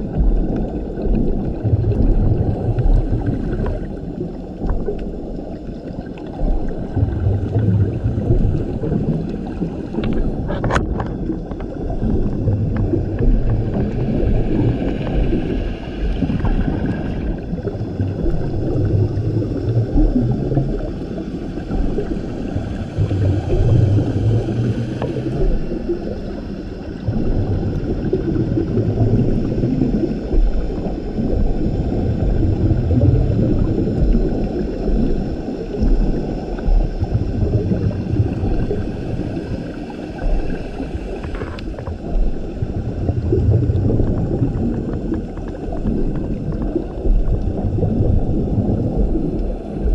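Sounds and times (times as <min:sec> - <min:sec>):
exhaled bubbles rumbling: 0:00.0 - 0:49.9
diver breathing through regulator: 0:08.2 - 0:49.9.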